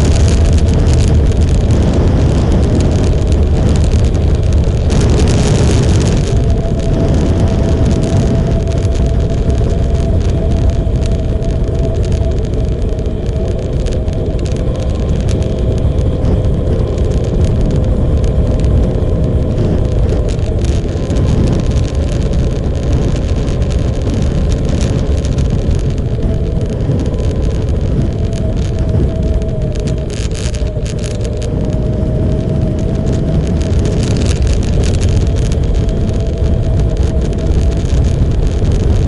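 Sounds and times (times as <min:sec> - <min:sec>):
motorcycle engine running: 0:00.0 - 0:39.0
wind rumble on microphone: 0:00.0 - 0:39.0.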